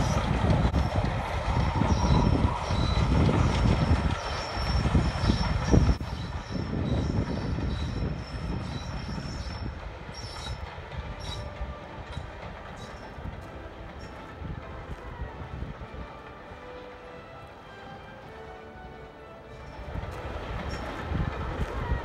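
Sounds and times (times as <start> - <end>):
steam train rumble with wheel clatter: 0.0 - 22.0.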